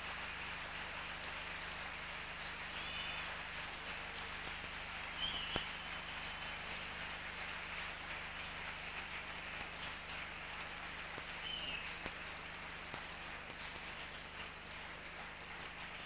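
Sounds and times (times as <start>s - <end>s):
audience applause: 0.0s - 16.0s.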